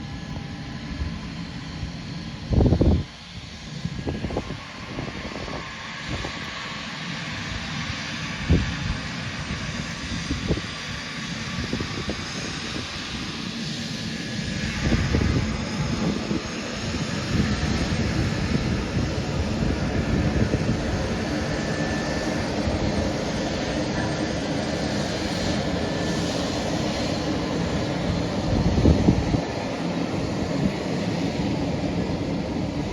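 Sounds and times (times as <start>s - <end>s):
jet engines at takeoff: 0.0s - 32.9s.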